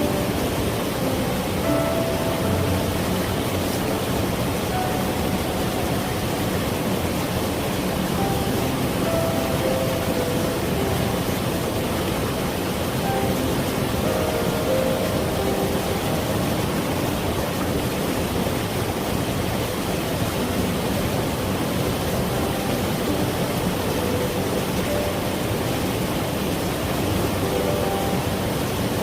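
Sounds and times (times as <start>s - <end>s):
faint soft musical notes: 0.0s - 29.0s
stream flowing over rocks: 0.0s - 29.0s.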